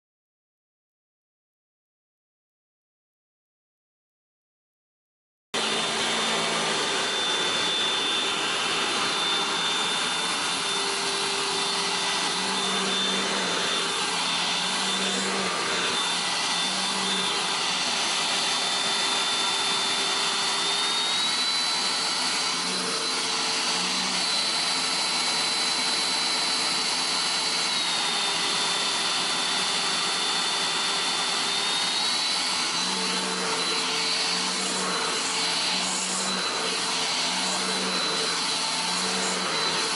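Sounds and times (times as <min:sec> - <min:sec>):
handheld vacuum cleaner whining: 0:05.6 - 0:39.9.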